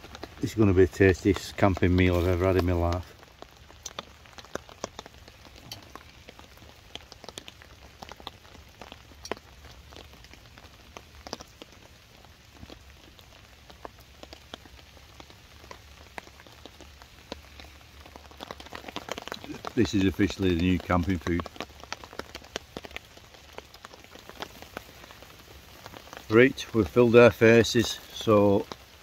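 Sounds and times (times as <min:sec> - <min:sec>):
rain hiss: 0:00.0 - 0:29.0
raindrops ticking: 0:00.0 - 0:29.0.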